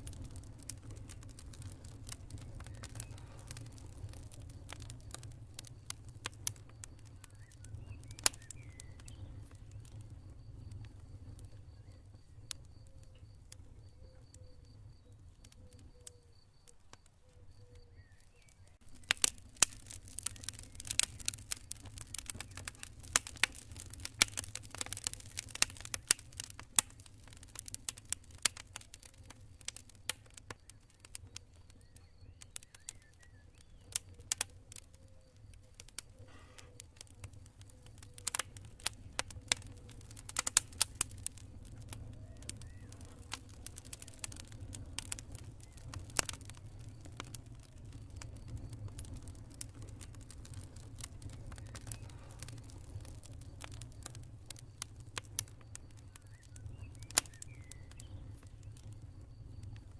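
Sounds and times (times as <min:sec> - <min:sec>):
campfire crackling: 0:00.0 - 0:59.9
cricket chirping: 0:00.1 - 0:24.0, 0:25.8 - 0:59.9.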